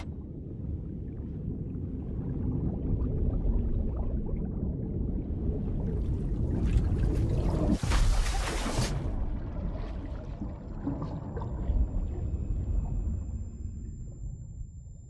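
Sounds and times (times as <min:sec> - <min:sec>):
underwater rumble of churning water: 0:00.0 - 0:15.0.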